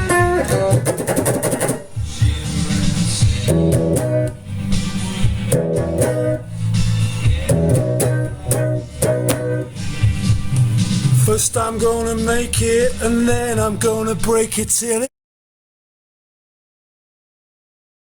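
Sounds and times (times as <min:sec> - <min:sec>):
electric guitar figure: 0:00.0 - 0:14.5
bass guitar low notes: 0:00.0 - 0:14.6.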